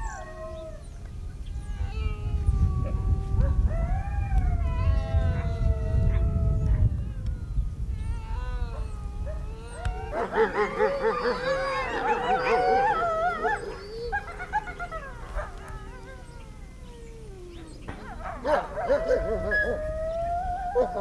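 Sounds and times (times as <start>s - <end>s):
wolves whining yipping and howling: 0.0s - 21.0s.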